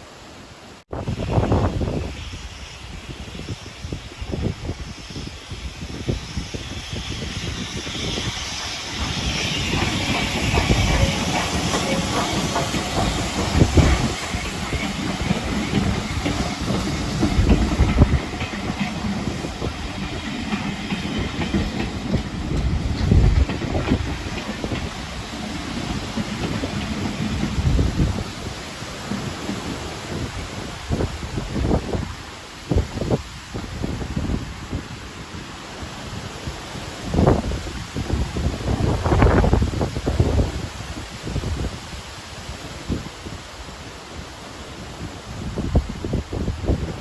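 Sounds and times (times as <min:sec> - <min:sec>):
wind buffeting microphone: 0:00.9 - 0:47.0
steam hissing: 0:01.0 - 0:47.0
train wheels clicking on rails: 0:01.1 - 0:47.0.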